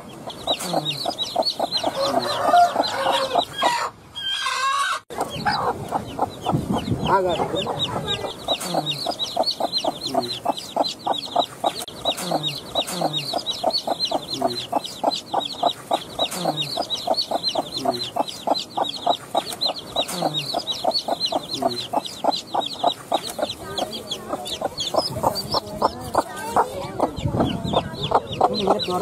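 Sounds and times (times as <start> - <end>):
chicks peeping: 0.0 - 29.0
low clucking: 0.0 - 29.0.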